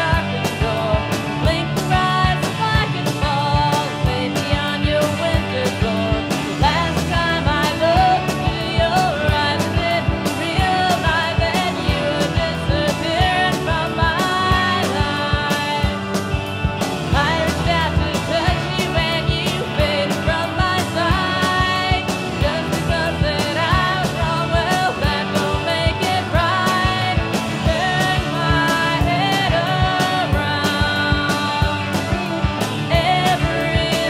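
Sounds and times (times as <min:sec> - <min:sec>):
person singing: 0:00.0 - 0:16.4, 0:17.1 - 0:34.0
bass guitar: 0:00.0 - 0:34.0
drum beat: 0:00.0 - 0:34.0
electric guitars: 0:00.0 - 0:34.0.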